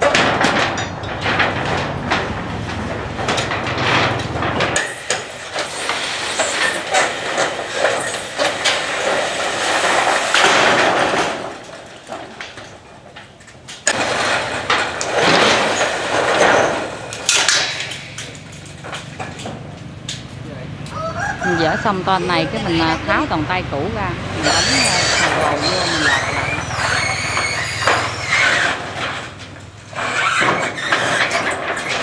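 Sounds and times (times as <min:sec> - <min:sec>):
sheet metal scraping and rattling: 0:00.0 - 0:32.0.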